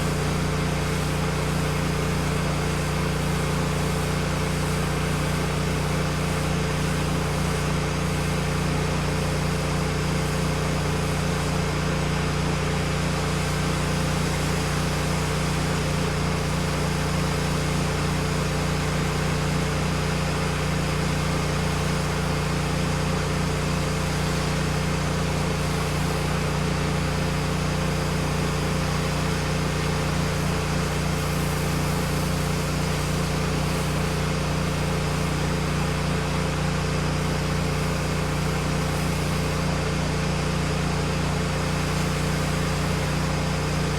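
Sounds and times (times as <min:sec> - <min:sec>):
pressure washer engine running: 0:00.0 - 0:43.9.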